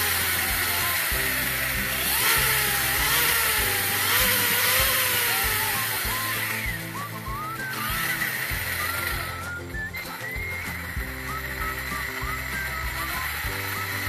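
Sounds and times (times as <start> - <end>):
background music: 0.0 - 14.0
electric motor whirring: 0.0 - 14.0.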